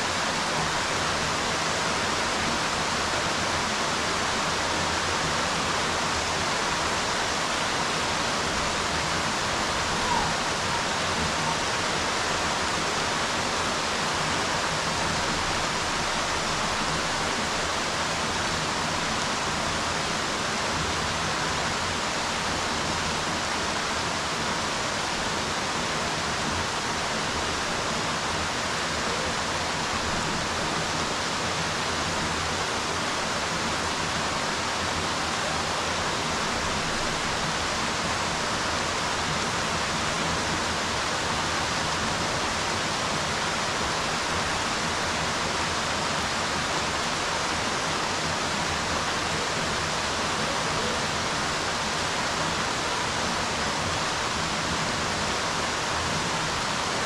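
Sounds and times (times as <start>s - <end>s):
rain falling on pool water: 0.0s - 57.0s.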